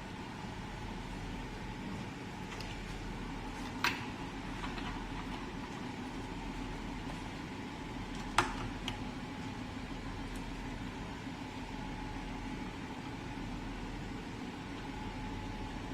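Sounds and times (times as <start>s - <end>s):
steady background hum: 0.0s - 15.9s.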